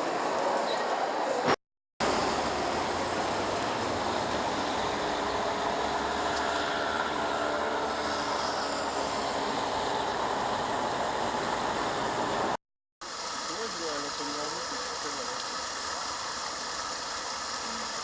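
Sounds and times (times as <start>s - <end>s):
traffic rumble and hiss: 0.0s - 18.0s.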